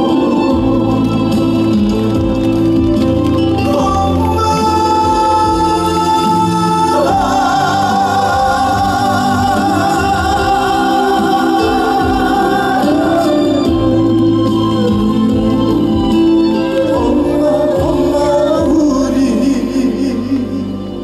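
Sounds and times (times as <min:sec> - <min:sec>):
live band playing slow ballad: 0:00.0 - 0:21.0.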